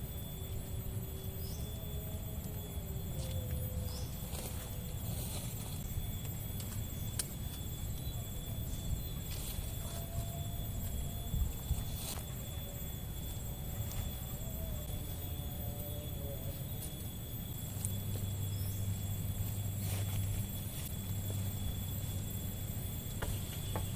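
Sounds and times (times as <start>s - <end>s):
high insect drone: 0.0s - 23.9s.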